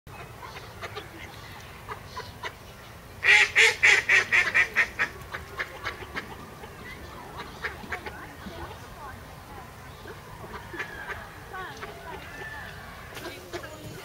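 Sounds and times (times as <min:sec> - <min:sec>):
ducks quacking: 0:00.1 - 0:14.0.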